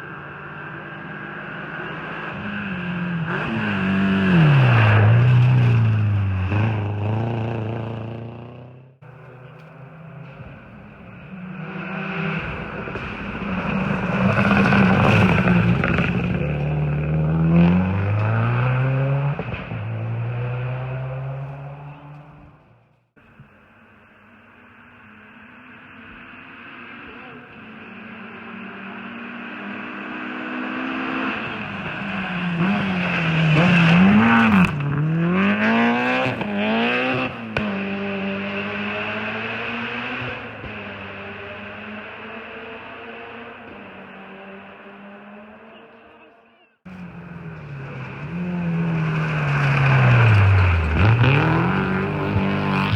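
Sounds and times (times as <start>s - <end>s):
rally car engine revving: 0.0s - 22.8s, 25.6s - 52.9s.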